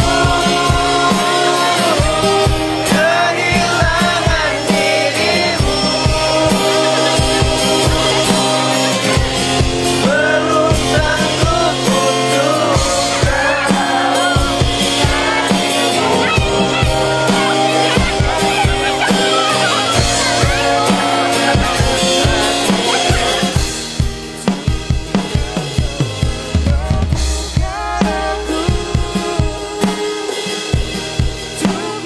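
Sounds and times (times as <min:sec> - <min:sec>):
audience singing along: 0:00.0 - 0:32.0
live band playing pop ballad: 0:00.0 - 0:32.0.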